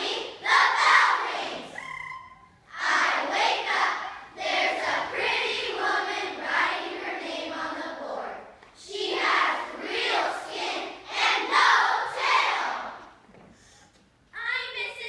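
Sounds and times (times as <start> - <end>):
children chanting in unison: 0.0 - 1.8, 2.7 - 13.0.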